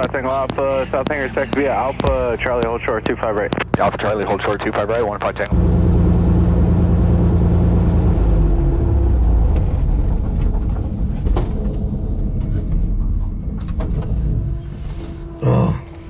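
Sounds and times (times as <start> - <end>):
airplane engine droning: 0.0 - 16.0.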